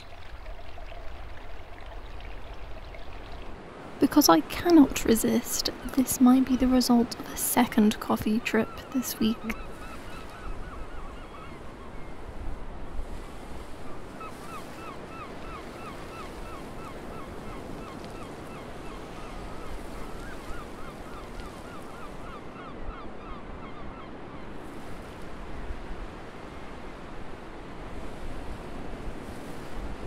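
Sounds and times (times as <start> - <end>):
waves lapping on rocky shore: 0.0 - 10.5, 12.3 - 22.3, 24.6 - 30.0.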